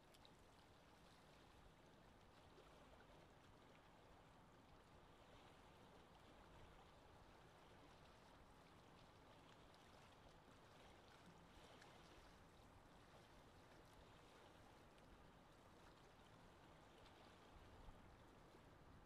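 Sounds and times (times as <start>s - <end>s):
moving water: 0.0s - 19.0s.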